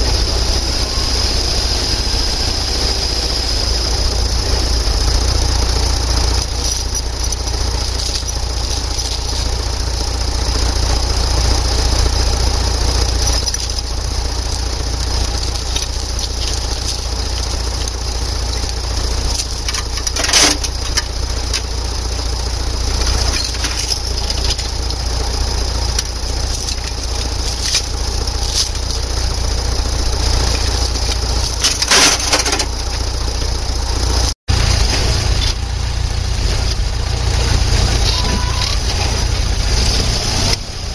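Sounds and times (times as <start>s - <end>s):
tracked machine engine rumbling: 0.0s - 40.9s.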